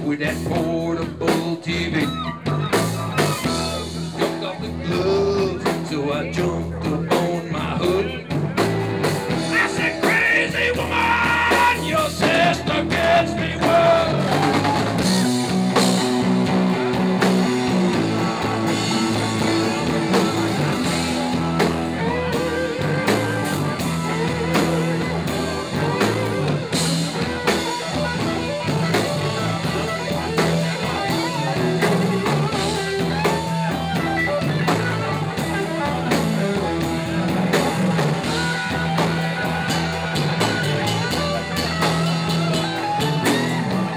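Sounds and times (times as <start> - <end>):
drum kit: 0.0 - 43.9
electric guitars: 0.0 - 43.9
keyboard: 0.0 - 43.9.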